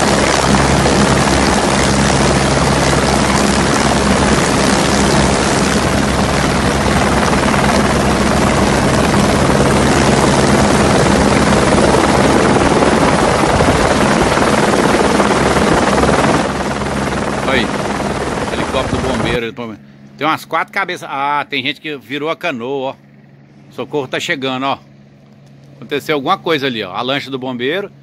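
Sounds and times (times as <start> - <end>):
helicopter rotor and engine: 0.0 - 28.0.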